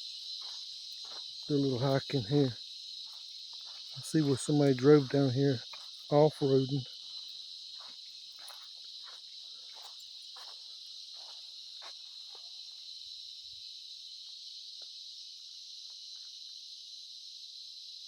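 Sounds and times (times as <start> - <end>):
cicadas buzzing: 0.0 - 18.0.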